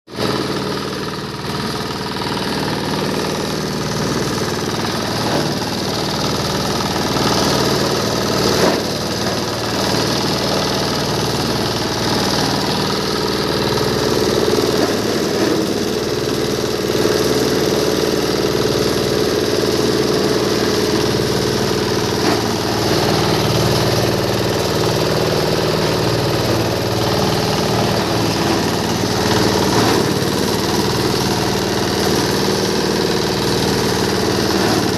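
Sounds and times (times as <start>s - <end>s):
shredding machine grinding: 0.1s - 34.9s.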